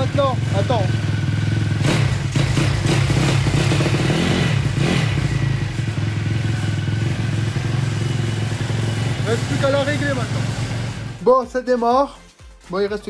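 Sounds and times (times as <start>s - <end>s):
motorbike engine revving and idling: 0.0s - 11.3s.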